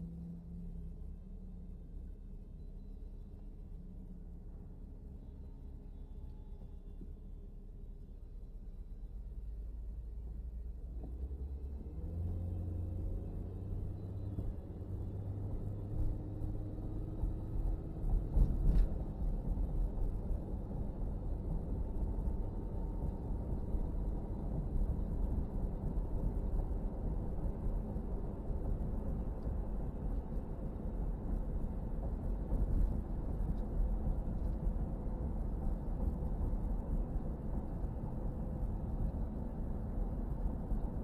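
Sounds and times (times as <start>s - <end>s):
car driving rumble: 0.0s - 41.0s.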